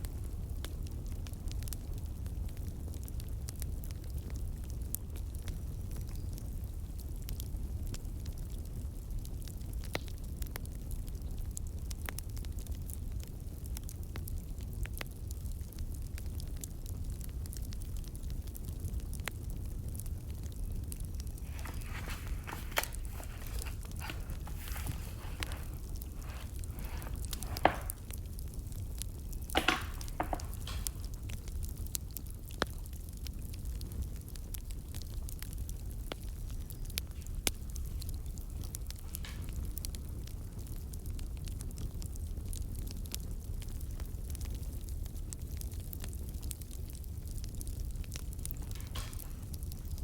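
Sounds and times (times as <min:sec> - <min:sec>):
low rumble of burning logs: 0:00.0 - 0:50.0
wood fire crackling: 0:00.0 - 0:50.0.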